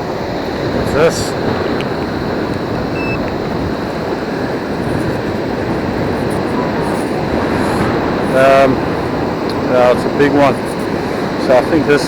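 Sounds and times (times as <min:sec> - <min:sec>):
surf rushing: 0:00.0 - 0:12.0
wind on microphone: 0:00.0 - 0:12.0.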